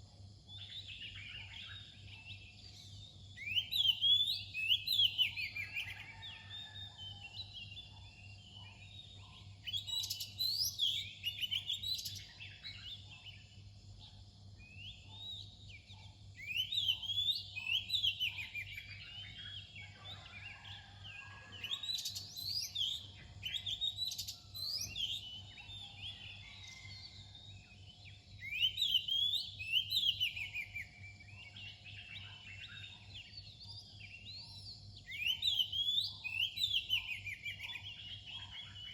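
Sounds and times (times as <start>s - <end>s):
bird singing whistled notes: 0.5s - 13.4s, 14.6s - 20.8s, 21.6s - 38.9s.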